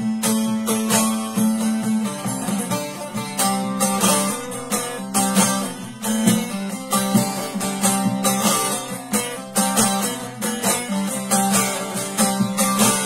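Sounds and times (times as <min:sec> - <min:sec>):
plucked lute melody: 0:00.0 - 0:13.0.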